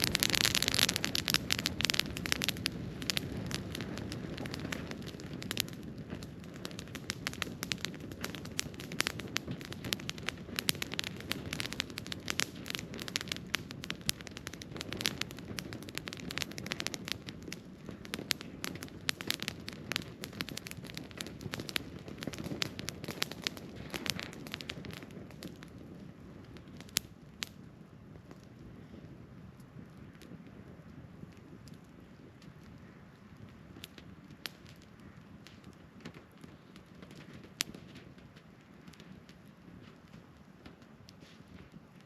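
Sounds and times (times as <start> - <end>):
campfire crackling and popping: 0.0 - 42.0
fire rushing: 0.0 - 42.0.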